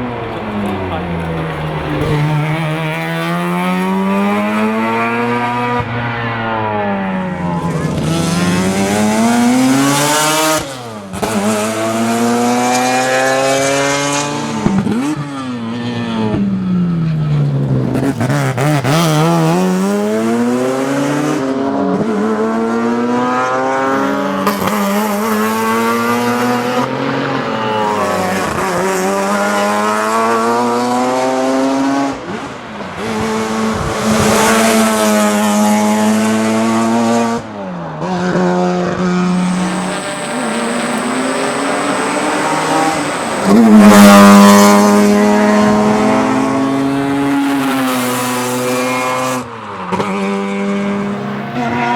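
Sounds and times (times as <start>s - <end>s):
rotary engine revving hard: 0.0s - 16.4s, 17.7s - 32.3s, 33.0s - 51.9s.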